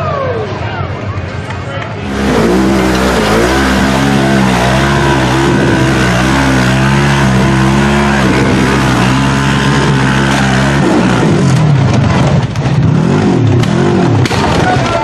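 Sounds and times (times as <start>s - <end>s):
off-road vehicle engine revving: 2.0s - 15.0s.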